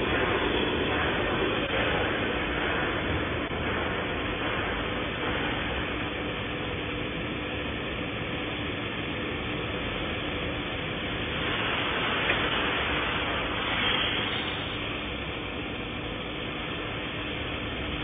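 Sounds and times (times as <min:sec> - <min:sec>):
laser cutter hissing: 0:00.0 - 0:06.8, 0:08.5 - 0:18.0.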